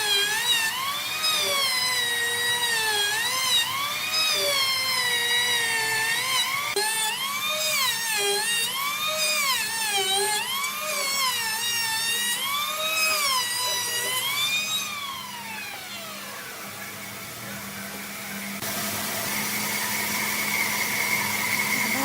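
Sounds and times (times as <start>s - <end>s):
power tool motor running: 0.0s - 22.0s.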